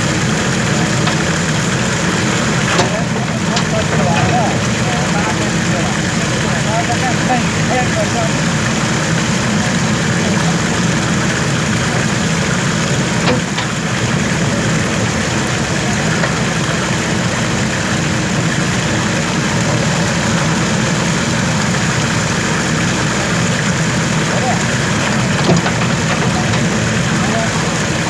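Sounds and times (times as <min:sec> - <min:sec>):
backhoe diesel engine running: 0:00.0 - 0:28.0.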